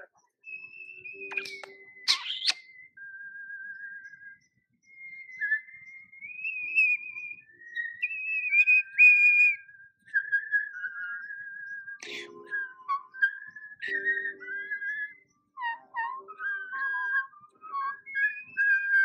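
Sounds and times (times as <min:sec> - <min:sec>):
person whistling a slow melody: 0:00.4 - 0:02.1, 0:02.7 - 0:19.0.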